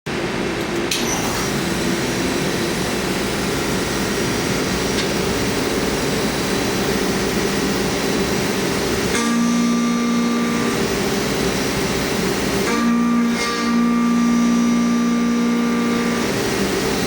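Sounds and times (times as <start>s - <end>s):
milling machine cutting steel: 0.9s - 17.0s.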